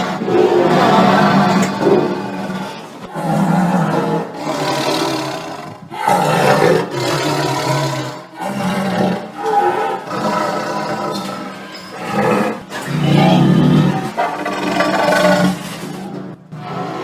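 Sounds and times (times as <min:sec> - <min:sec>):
tiger roaring and growling: 0:00.0 - 0:17.0.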